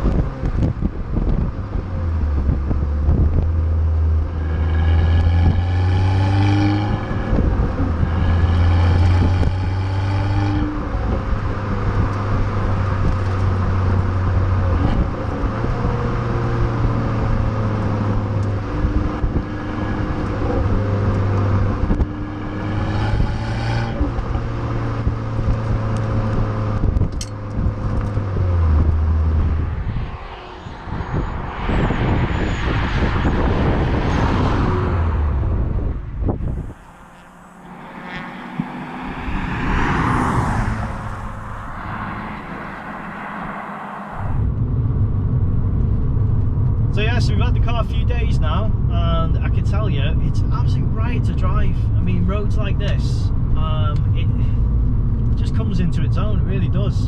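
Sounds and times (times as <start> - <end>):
car engine revving while driving: 0.0 - 47.2
road noise: 0.0 - 57.0.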